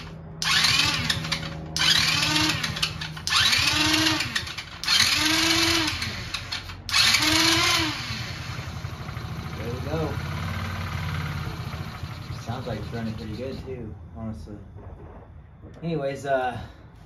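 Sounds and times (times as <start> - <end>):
starter motor cranking engine: 0.0 - 13.8.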